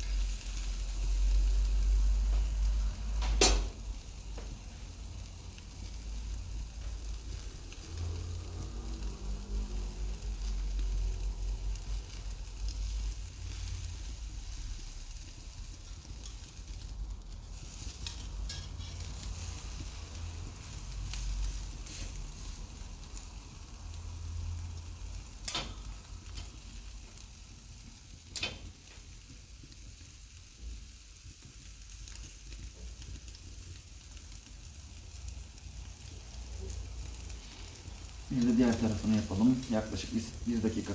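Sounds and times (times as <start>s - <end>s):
steak sizzling on a grill: 0.0s - 40.9s.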